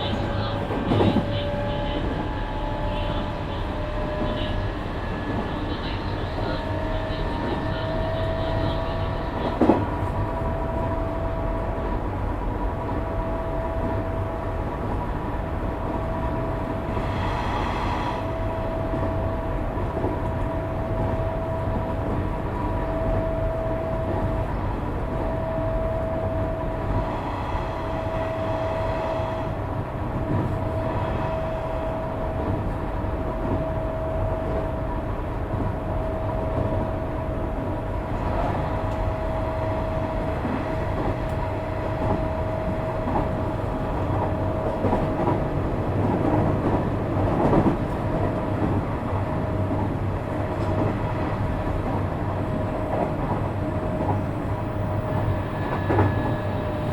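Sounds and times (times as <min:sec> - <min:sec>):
high train whine: 0:00.0 - 0:56.9
wheels rumbling on rail: 0:00.0 - 0:56.9.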